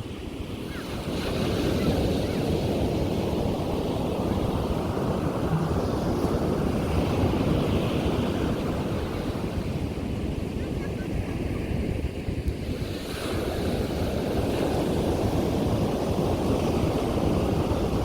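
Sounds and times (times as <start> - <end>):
ocean surf on beach: 0.0 - 18.0
wind rumbling on microphone: 0.0 - 18.0.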